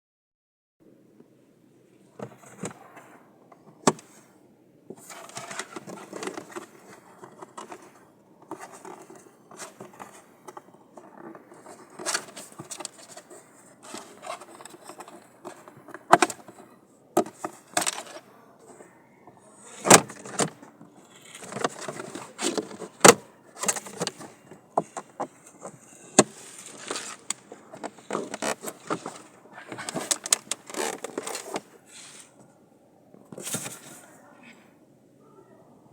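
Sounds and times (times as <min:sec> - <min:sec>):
plastic parts rustling and scraping: 0:02.2 - 0:04.3, 0:04.9 - 0:32.5, 0:33.2 - 0:34.2.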